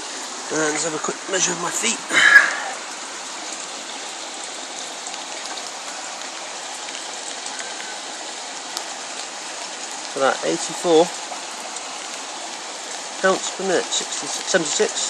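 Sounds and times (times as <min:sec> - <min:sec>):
rain falling on wet ground: 0:00.0 - 0:15.0.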